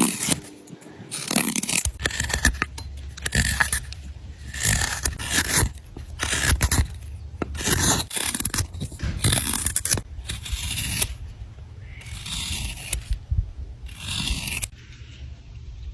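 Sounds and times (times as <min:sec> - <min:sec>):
knife slicing wood: 0:00.0 - 0:13.2, 0:13.9 - 0:14.8.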